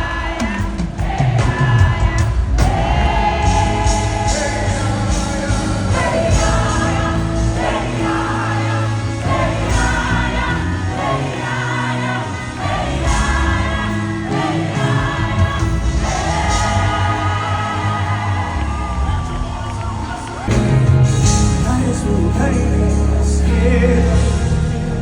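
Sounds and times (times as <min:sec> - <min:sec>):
band with steady bass: 0:00.0 - 0:25.0
choir singing gospel: 0:00.0 - 0:25.0.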